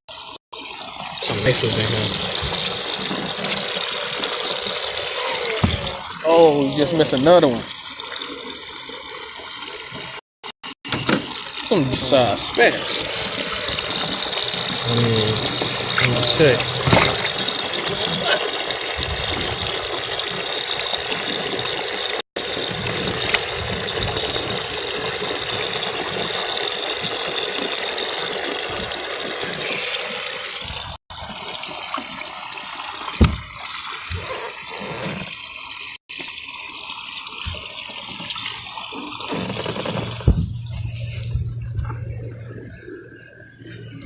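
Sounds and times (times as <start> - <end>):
water running: 0.1 - 10.2, 10.9 - 44.0.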